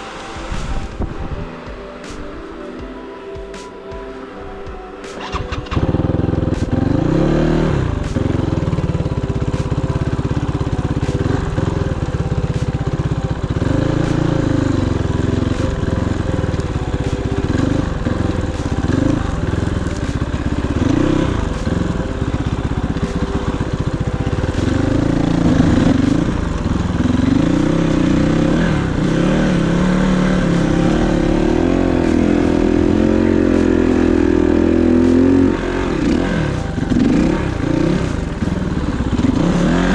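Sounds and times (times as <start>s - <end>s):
dirt bike engine revving: 5.2s - 39.9s.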